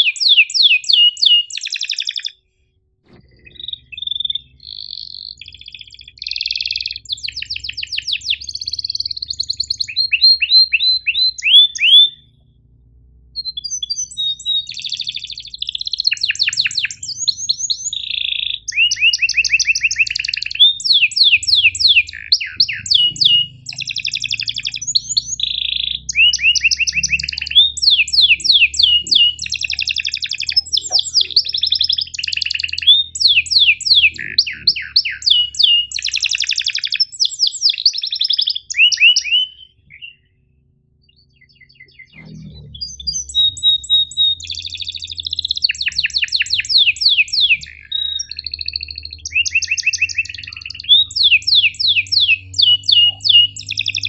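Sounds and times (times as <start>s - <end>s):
canary singing trills: 0.0s - 2.5s, 3.1s - 54.0s.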